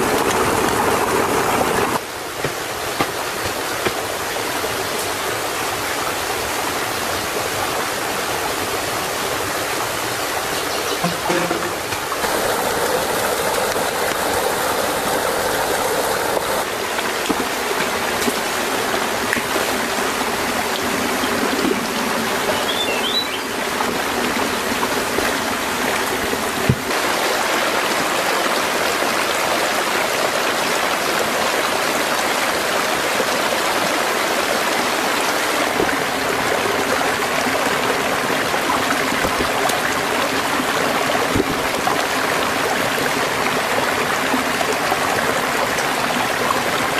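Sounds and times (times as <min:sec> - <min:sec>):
water rushing over stones: 0:00.0 - 0:46.9.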